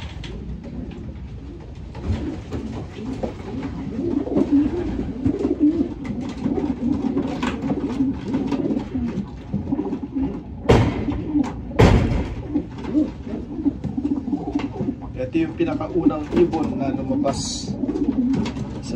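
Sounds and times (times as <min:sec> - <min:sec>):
pigeons cooing: 0:00.0 - 0:18.9.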